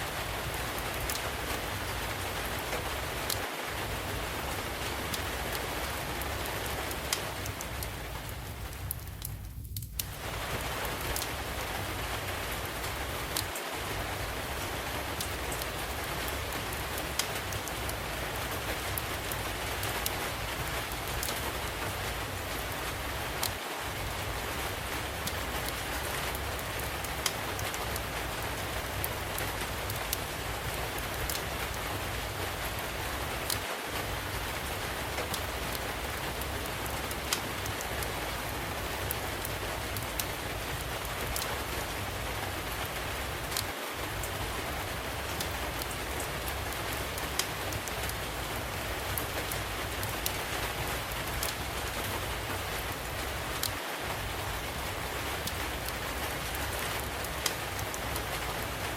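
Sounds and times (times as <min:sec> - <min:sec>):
steady rainfall: 0:00.0 - 0:58.9
wood fire popping and crackling: 0:00.0 - 0:58.9.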